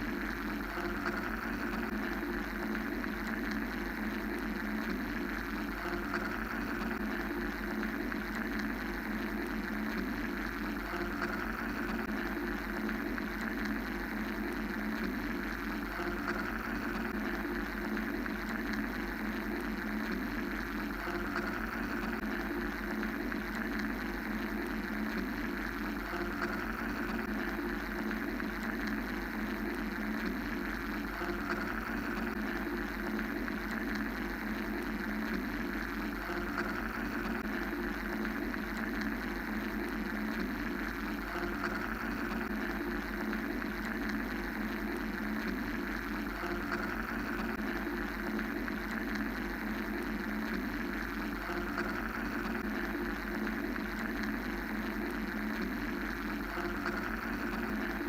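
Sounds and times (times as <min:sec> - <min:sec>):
mechanical white-noise drone: 0:00.0 - 0:58.0.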